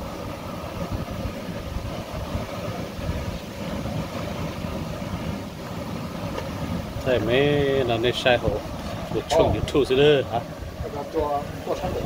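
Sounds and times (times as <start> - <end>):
soup boiling in a pot: 0.0 - 10.8.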